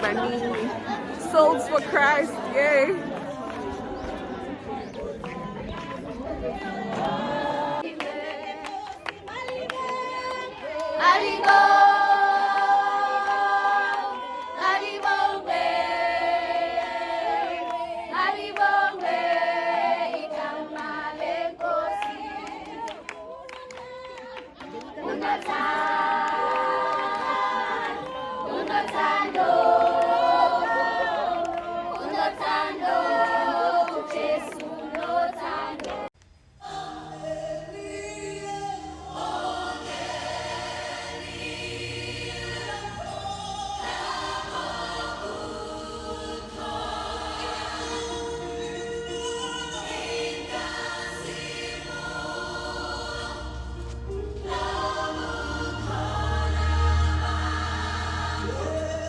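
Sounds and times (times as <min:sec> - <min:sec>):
choir singing in harmony: 0:00.0 - 0:59.0.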